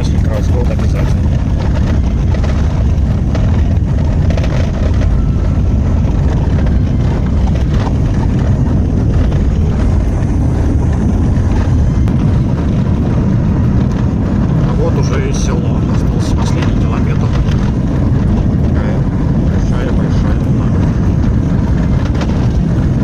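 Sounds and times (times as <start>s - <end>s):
car engine and road noise rumble: 0.0s - 23.0s.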